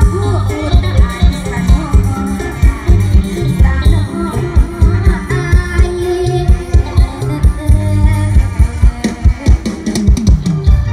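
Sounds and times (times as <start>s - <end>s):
person singing: 0.0s - 9.4s
keyboard melody: 0.0s - 10.9s
live band music over loudspeakers: 0.0s - 10.9s
steady bass drum beat: 0.0s - 10.9s.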